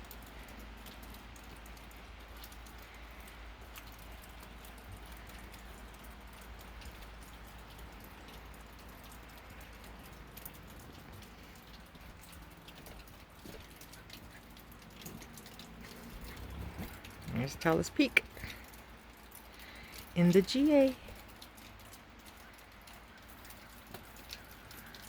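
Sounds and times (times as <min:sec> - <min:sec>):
meltwater dripping: 0:00.0 - 0:25.0.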